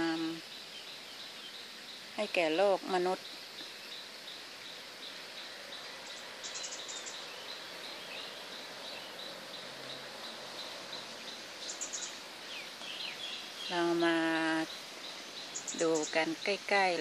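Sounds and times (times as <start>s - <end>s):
birds chirping: 0.0s - 17.0s
steady hiss: 0.0s - 17.0s.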